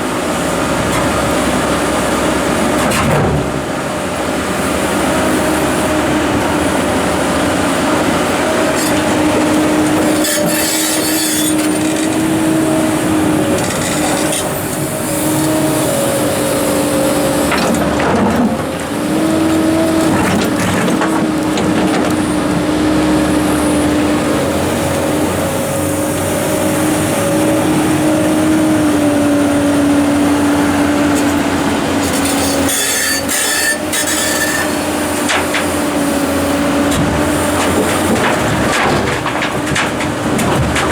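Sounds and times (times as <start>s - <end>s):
excavator engine and hydraulics whine: 0.0s - 40.9s.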